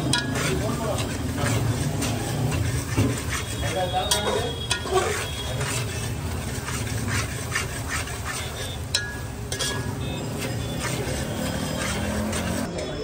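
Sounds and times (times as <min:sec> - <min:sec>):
spoon scraping in metal pot: 0:00.0 - 0:13.0.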